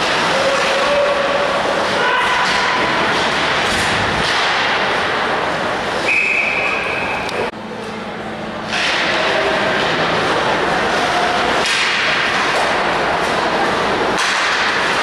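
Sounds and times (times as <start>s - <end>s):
ice hockey game noise: 0.0s - 15.0s.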